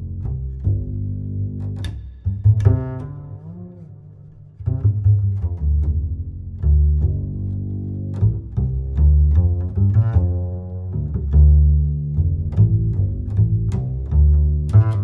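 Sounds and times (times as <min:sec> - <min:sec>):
low string instrument music: 0:00.0 - 0:15.0.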